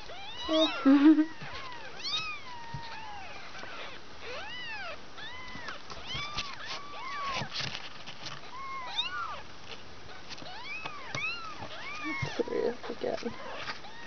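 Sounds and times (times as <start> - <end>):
kittens mewing: 0.0 - 7.5, 8.3 - 9.5, 10.1 - 14.0.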